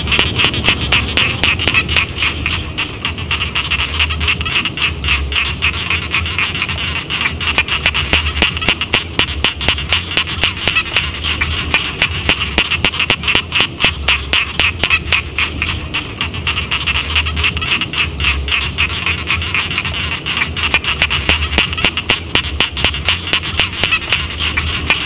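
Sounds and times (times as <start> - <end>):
frogs croaking in chorus: 0.0 - 25.0
low rumble: 0.0 - 25.0.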